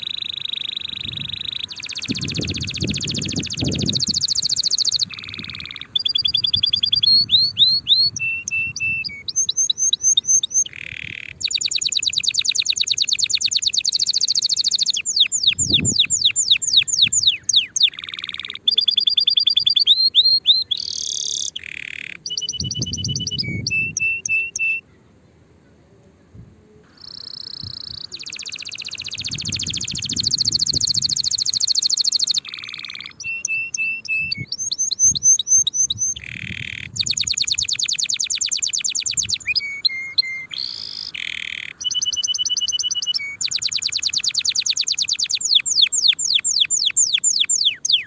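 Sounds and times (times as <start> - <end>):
canary singing trills: 0.0 - 25.0, 26.8 - 48.0.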